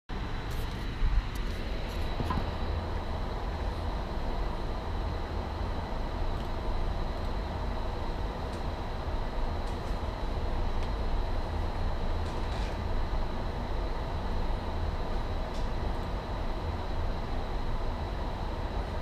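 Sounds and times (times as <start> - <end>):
air conditioning rumble and hiss: 0.1 - 19.0.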